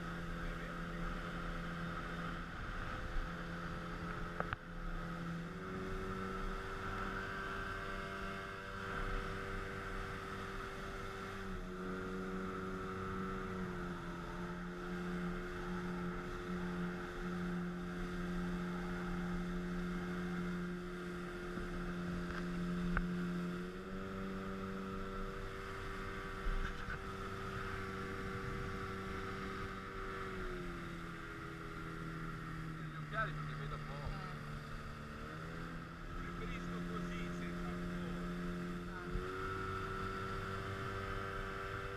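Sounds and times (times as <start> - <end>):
speedboat engine running: 0.0 - 41.9.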